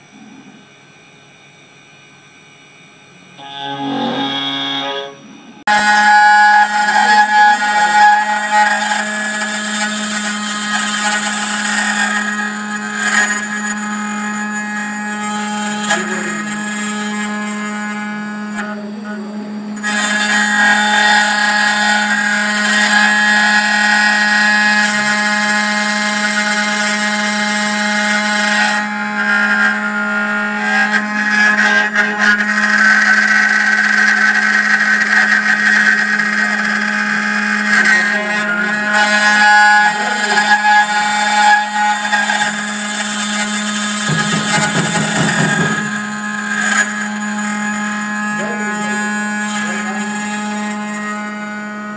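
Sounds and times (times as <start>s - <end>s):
engraving machine spindle whine: 0.0s - 51.9s.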